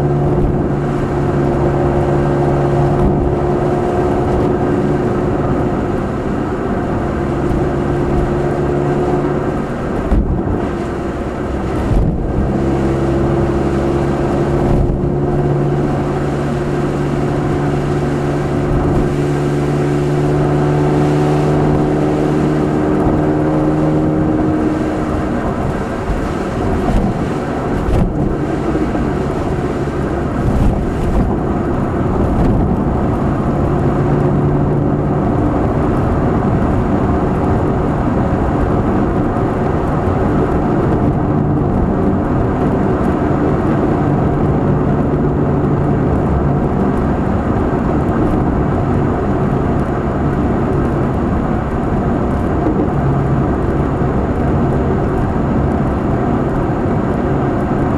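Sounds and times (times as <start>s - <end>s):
car engine droning in cabin: 0.0s - 57.9s
road noise: 0.0s - 57.9s.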